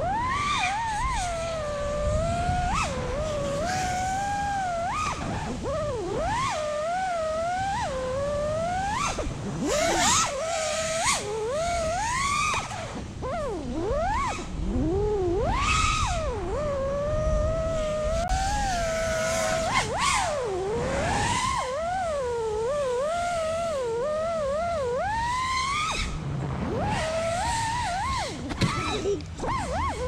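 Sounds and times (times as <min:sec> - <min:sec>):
drone motors whining: 0:00.0 - 0:30.0
low wind rumble: 0:00.0 - 0:30.0.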